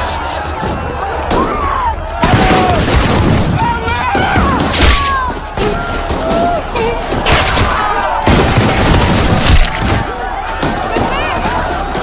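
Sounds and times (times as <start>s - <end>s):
people screaming and wailing: 0.0s - 12.0s.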